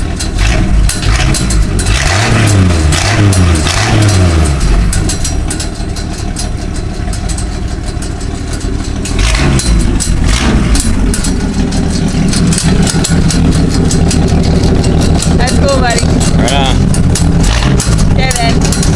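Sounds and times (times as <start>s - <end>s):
truck engine idling: 0.0s - 18.9s.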